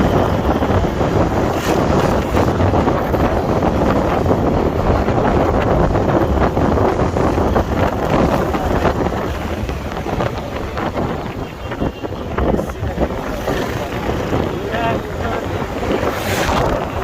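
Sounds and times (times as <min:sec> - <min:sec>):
motorcycle engine: 0:00.0 - 0:17.0
road noise: 0:00.0 - 0:17.0
wind rushing over microphone: 0:00.0 - 0:17.0.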